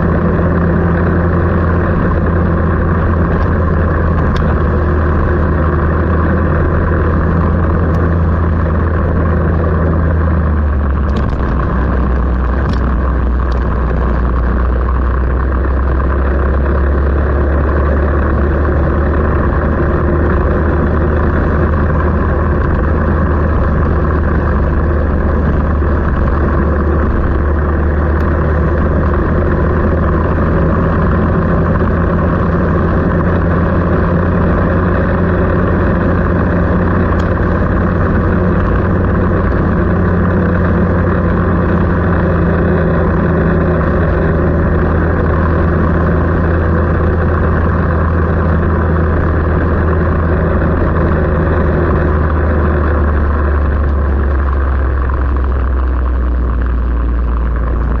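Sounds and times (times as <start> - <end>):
vehicle engine running steadily: 0.0 - 58.0.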